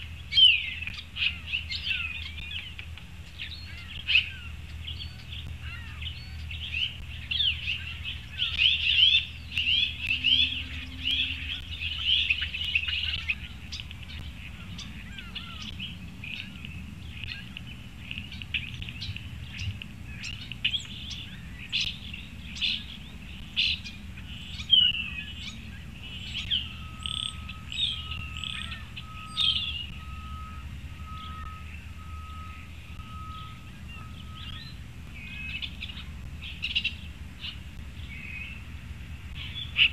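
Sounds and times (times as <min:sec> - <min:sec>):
bird repeating low note: 0:00.0 - 0:39.9
faint low rumble: 0:00.0 - 0:39.9
songbirds chirping: 0:00.0 - 0:39.9.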